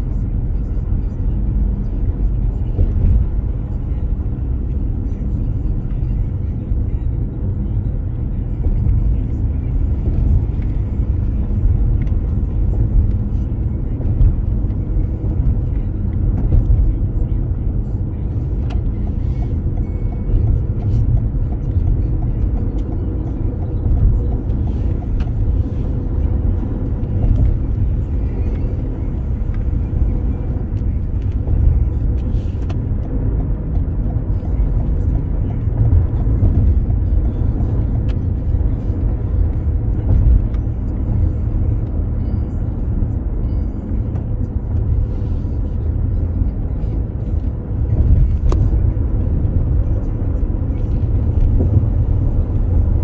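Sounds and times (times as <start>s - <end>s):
car cabin road and engine rumble: 0.0s - 53.0s.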